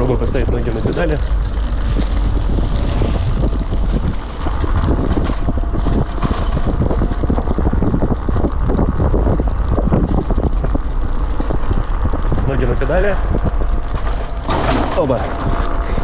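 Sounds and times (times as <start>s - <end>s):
electric bike rattling and knocking: 0.0s - 16.0s
wind on microphone: 0.0s - 16.0s.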